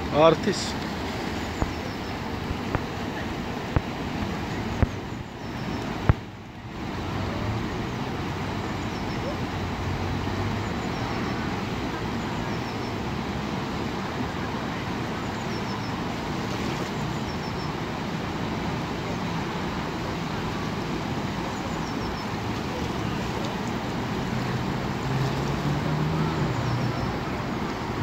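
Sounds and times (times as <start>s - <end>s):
churning whitewater: 0.0s - 28.0s.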